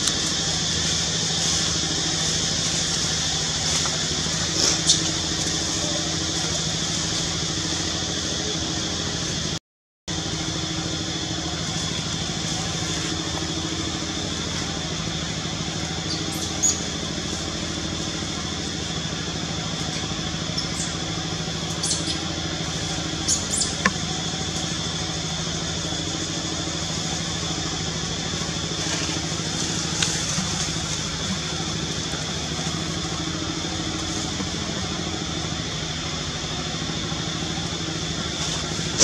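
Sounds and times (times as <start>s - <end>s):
steady droning hum: 0.0s - 39.0s.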